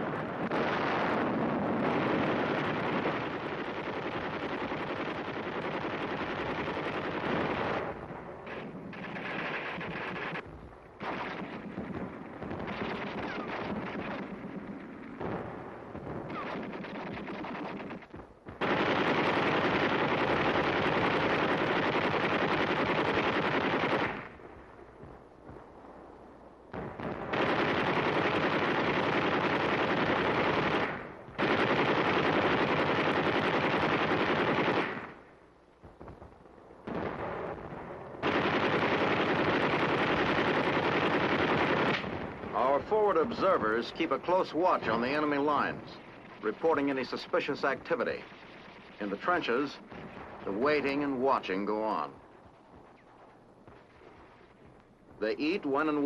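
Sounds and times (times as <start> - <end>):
machine-gun fire: 0.5 - 24.4, 26.8 - 35.2, 36.9 - 54.7.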